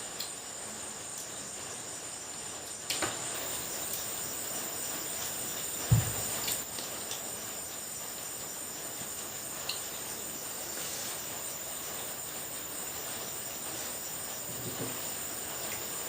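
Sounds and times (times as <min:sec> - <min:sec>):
background hiss: 0:00.0 - 0:16.0
crickets trilling: 0:00.0 - 0:16.0.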